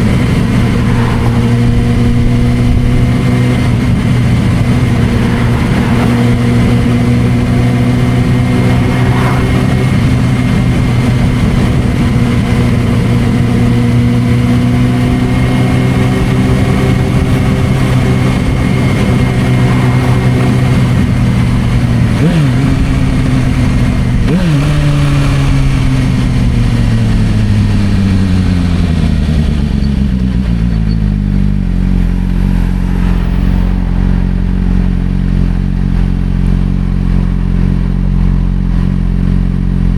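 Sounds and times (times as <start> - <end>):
engine throttle blips: 0.0 - 39.9
motorcycle engine running: 0.0 - 39.9.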